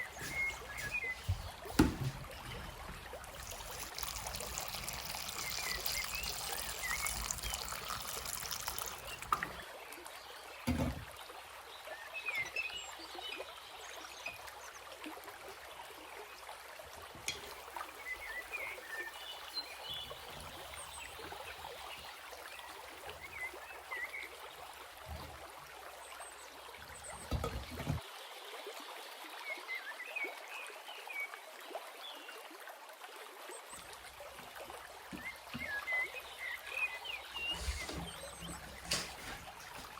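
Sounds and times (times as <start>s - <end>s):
water trickling: 0.0s - 11.7s, 13.4s - 29.3s, 32.4s - 39.9s.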